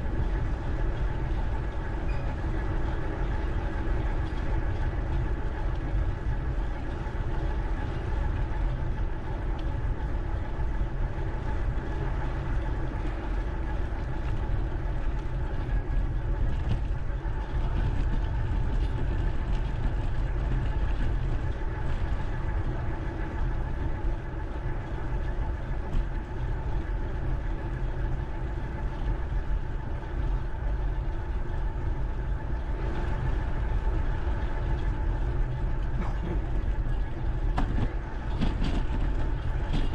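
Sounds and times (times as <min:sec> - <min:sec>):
faint steady hum: 0:00.0 - 0:39.9
wind and riding rumble: 0:00.0 - 0:39.9.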